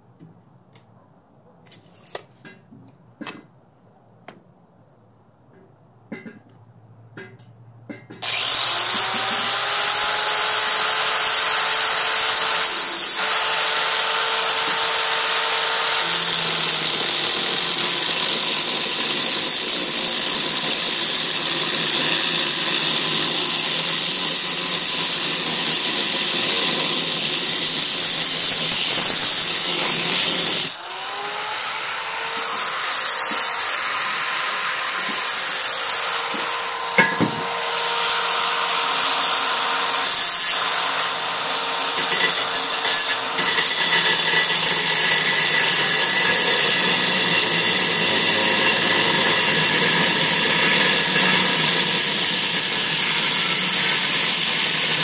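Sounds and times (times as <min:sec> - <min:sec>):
angle grinder grinding steel: 0:08.2 - 0:55.0.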